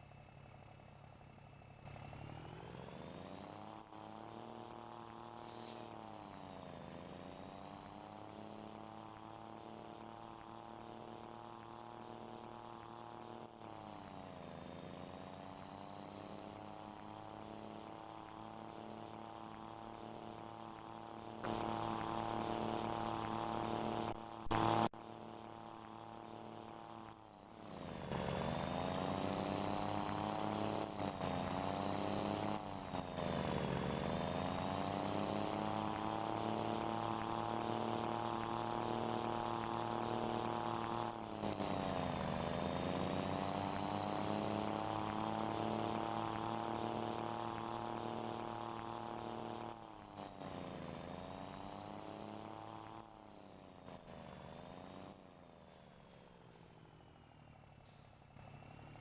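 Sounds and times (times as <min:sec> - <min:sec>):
truck diesel engine shifting gears: 0:00.1 - 0:59.0.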